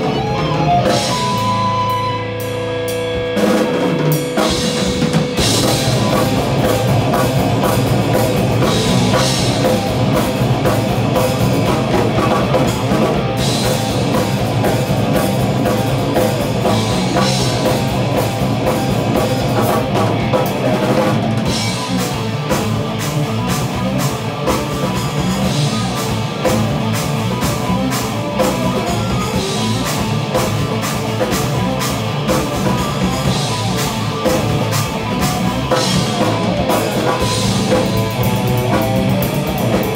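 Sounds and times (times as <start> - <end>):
bass guitar: 0.0 - 39.9
drum kit with cymbals: 0.0 - 39.9
electric guitars: 0.0 - 39.9.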